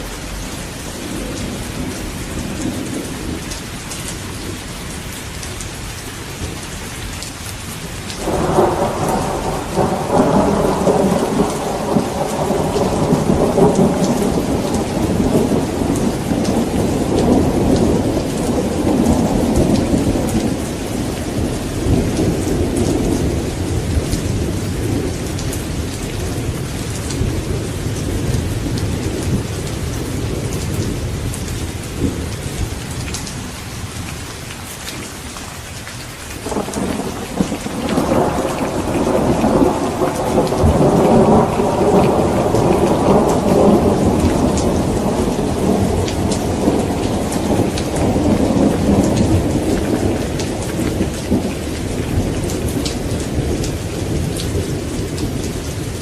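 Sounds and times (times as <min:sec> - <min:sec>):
steady rain falling: 0:00.0 - 0:56.0
thunder rumbling: 0:08.2 - 0:33.5, 0:36.4 - 0:56.0.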